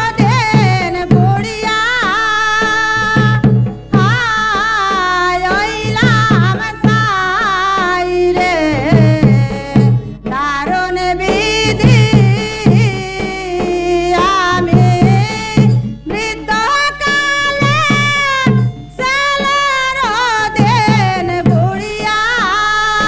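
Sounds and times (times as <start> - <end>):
drum beat: 0.0 - 22.2
women singing folk song: 0.0 - 23.0.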